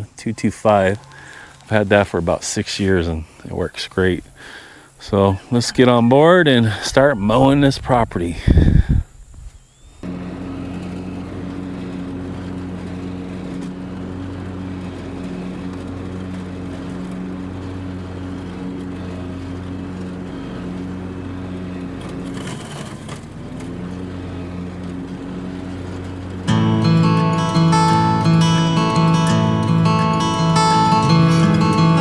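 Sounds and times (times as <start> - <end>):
mower engine running: 0.0 - 32.0.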